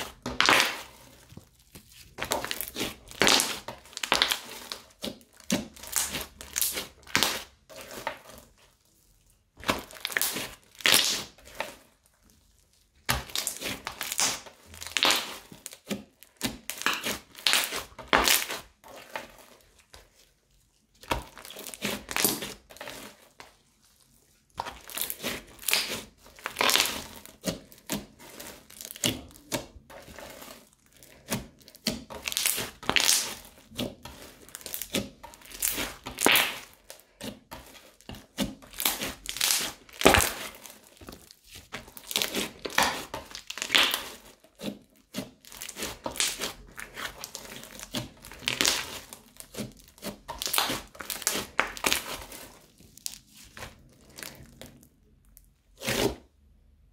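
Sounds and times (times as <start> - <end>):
crunchy slime squishing: 0.0 - 56.9.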